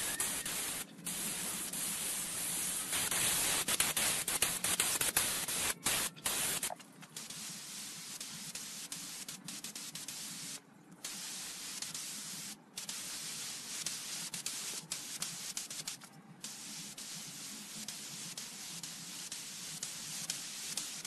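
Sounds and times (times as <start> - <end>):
air spraying hiss: 0.0 - 21.0.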